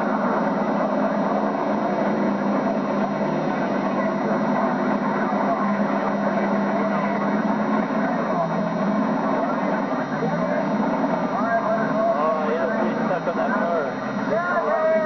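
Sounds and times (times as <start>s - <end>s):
car engines running together: 0.0s - 15.0s.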